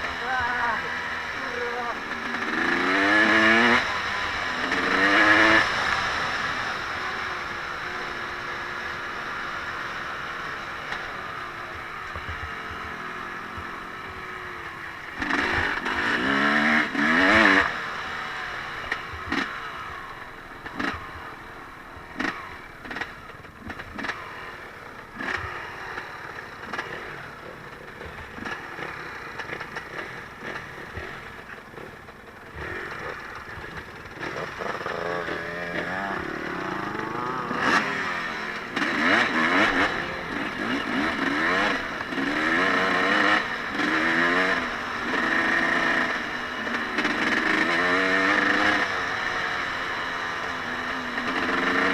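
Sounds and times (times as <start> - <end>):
small engine revving: 0.0 - 51.9.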